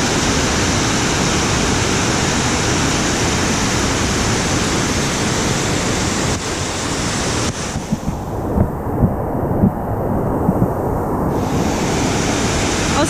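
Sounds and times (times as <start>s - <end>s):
waterfall rushing: 0.0s - 13.0s
wind buffeting microphone: 0.0s - 13.0s.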